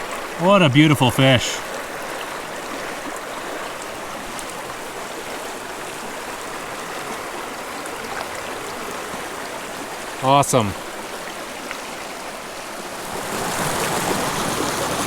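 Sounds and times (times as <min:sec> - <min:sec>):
stream water rushing over rocks: 0:00.0 - 0:15.0.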